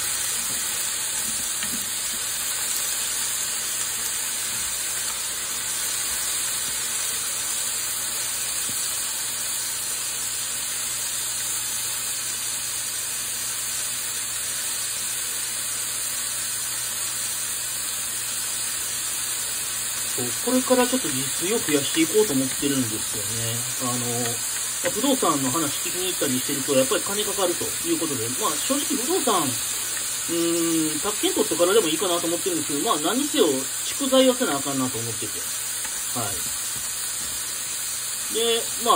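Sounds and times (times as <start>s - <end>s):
meat and vegetables sizzling in pan: 0.0s - 38.9s.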